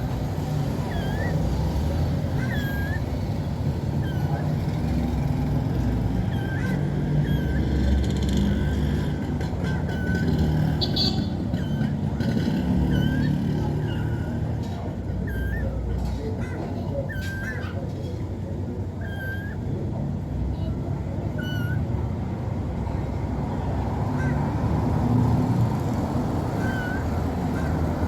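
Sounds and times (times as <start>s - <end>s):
kittens mewing: 0.0s - 22.5s, 23.9s - 28.0s.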